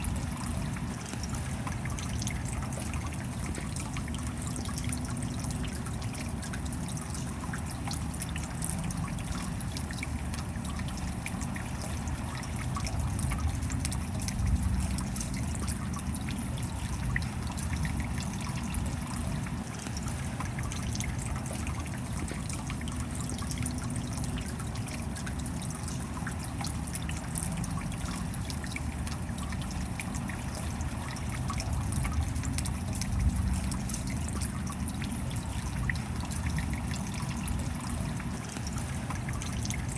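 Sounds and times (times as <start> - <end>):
close water drips: 0.0 - 39.9
steady rain: 0.0 - 39.9
trickling water: 0.0 - 39.9.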